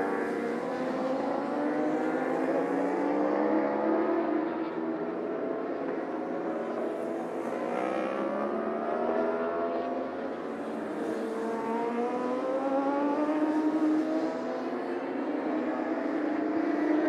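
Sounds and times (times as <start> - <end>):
racing motorcycle engines accelerating: 0.0 - 17.0.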